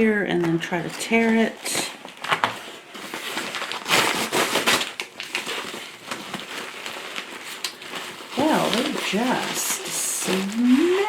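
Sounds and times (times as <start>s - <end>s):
packaging crinkling: 0.9s - 11.0s
envelope tearing: 2.1s - 11.0s.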